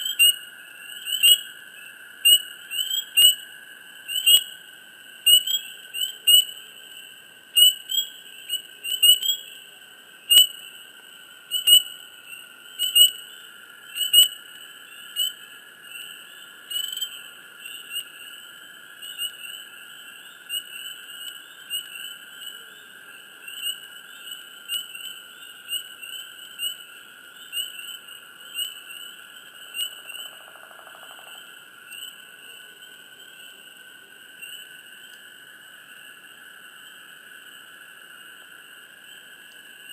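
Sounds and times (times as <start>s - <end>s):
frogs chirping: 0.0s - 39.9s.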